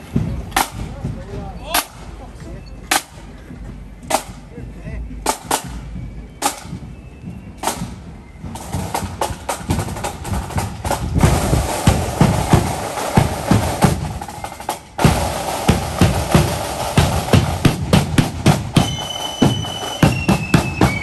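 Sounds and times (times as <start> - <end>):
snare and bass drums beating: 0.0 - 21.0.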